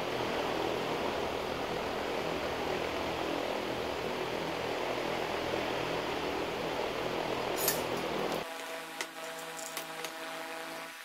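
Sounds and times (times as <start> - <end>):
furnace burner roaring hiss: 0.0 - 11.0.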